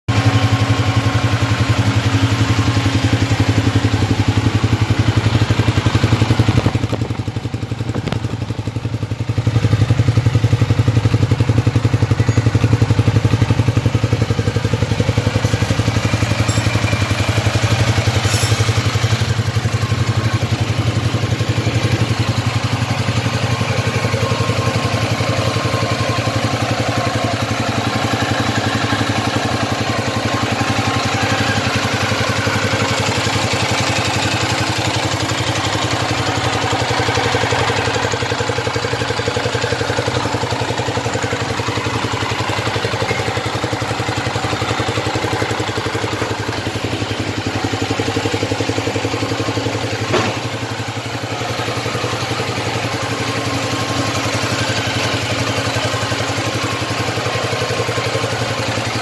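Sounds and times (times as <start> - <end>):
motorcycle engine idling: 0.1 - 59.0.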